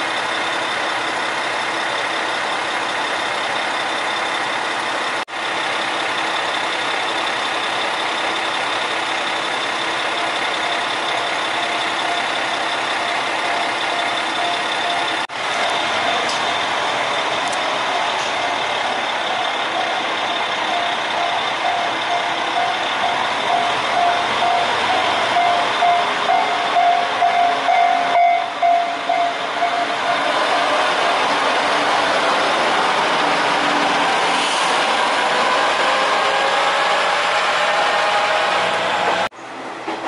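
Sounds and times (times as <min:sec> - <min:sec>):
diesel railcar engine running: 0:00.0 - 0:40.0.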